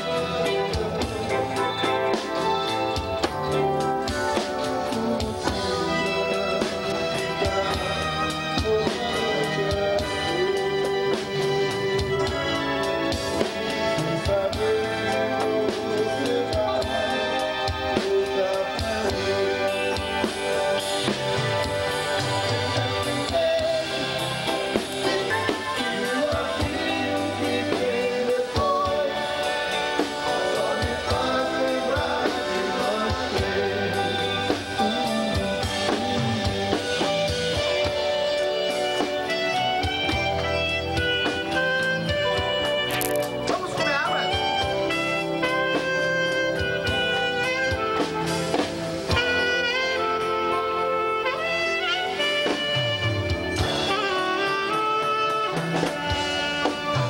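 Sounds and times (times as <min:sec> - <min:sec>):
drum kit beat: 0:00.0 - 0:57.0
live dance band playing: 0:00.0 - 0:57.0.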